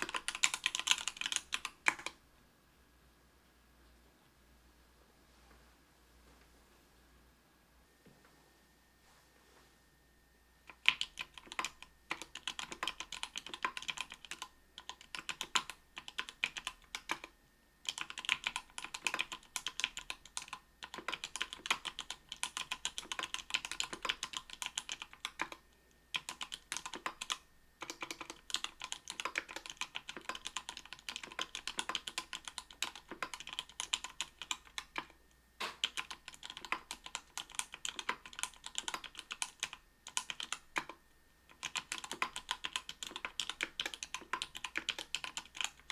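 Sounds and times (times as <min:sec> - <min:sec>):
mechanical keyboard typing: 0:00.0 - 0:02.2, 0:10.7 - 0:45.9.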